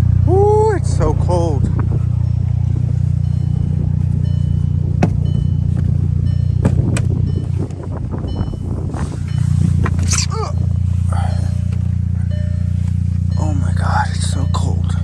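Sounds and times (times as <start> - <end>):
car engine idling: 0.0 - 15.0
faint warning chime beeping: 2.1 - 9.8, 10.4 - 15.0.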